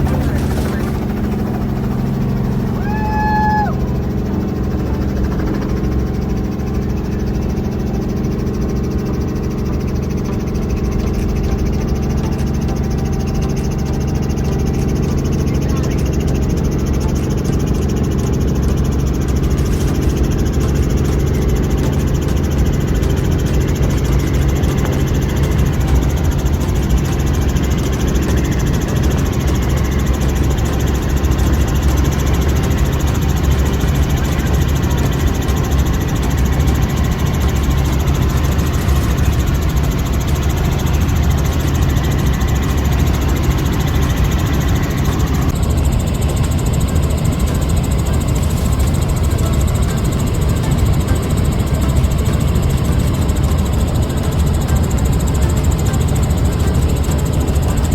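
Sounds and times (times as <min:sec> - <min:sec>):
engine running steadily: 0:00.0 - 0:57.9.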